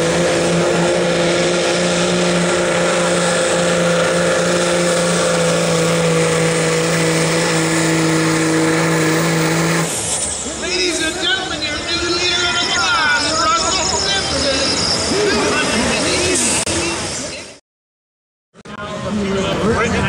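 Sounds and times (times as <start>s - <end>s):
diesel engine under heavy load: 0.0s - 17.6s.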